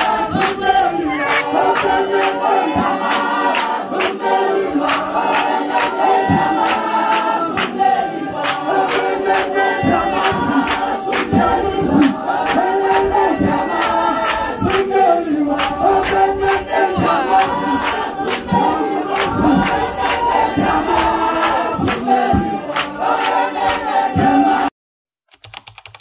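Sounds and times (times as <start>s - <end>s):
choir singing unaccompanied: 0.0s - 24.7s
sharp rhythmic claps: 0.0s - 24.7s.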